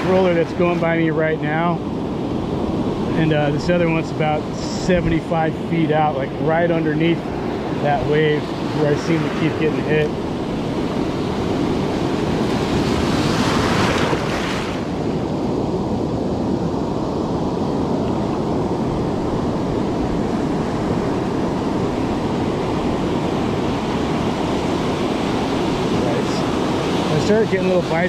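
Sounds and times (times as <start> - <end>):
ocean surf breaking: 0.0 - 28.0
wind on microphone: 0.0 - 28.0.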